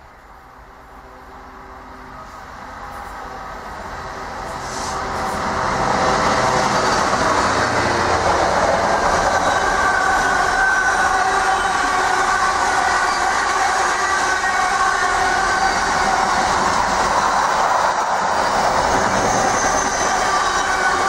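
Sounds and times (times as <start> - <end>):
freight train passing: 0.0 - 21.0.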